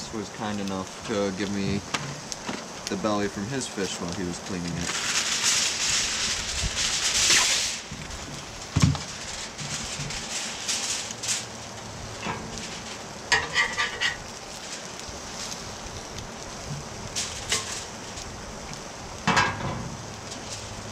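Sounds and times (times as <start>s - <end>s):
fish sizzling on a griddle: 0.0s - 20.9s
tin foil crinkling: 0.0s - 20.9s.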